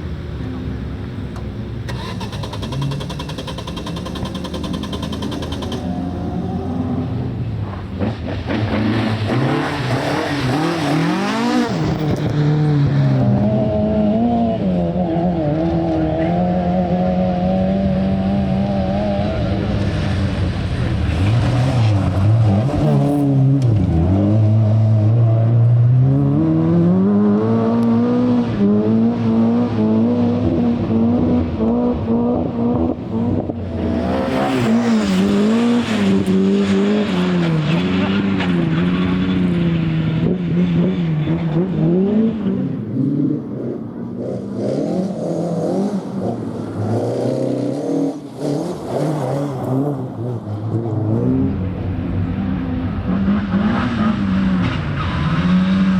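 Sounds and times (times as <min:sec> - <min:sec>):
rally car engine revving: 0:01.9 - 0:55.9.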